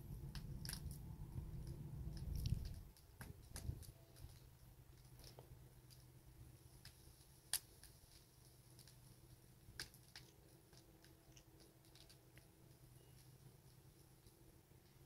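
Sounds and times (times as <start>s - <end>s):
burning logs popping: 0.0s - 15.0s
wood fire crackling: 0.0s - 15.0s.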